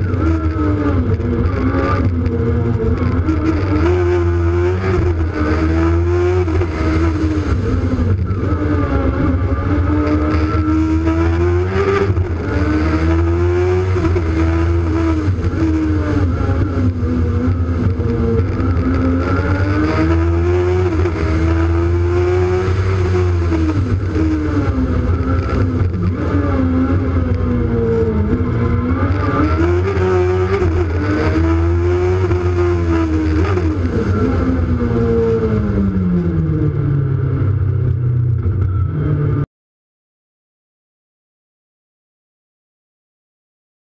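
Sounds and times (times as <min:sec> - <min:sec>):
race car engine revving: 0:00.0 - 0:39.4.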